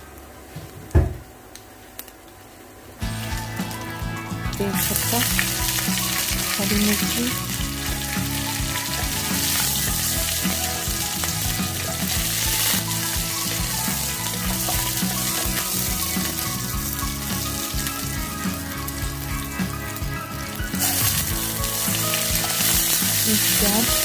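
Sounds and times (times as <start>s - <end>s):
spices sizzling in hot oil: 3.0s - 24.0s.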